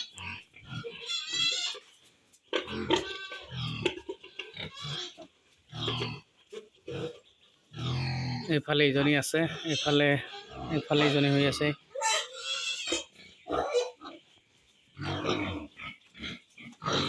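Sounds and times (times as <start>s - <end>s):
pigs grunting and squealing: 0.0s - 17.0s.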